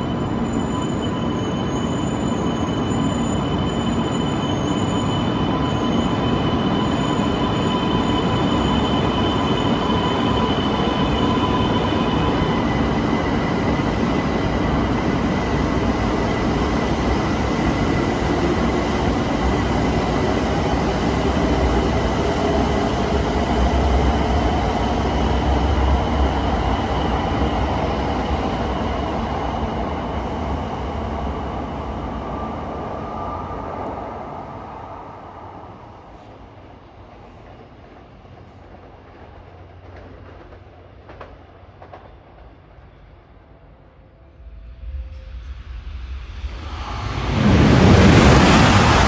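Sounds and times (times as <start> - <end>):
train rumble: 3.3 - 49.0.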